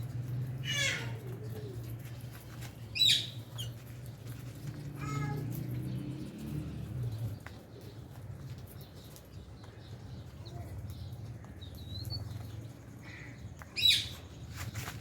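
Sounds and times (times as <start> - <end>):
lovebirds calling: 0.6 - 15.0.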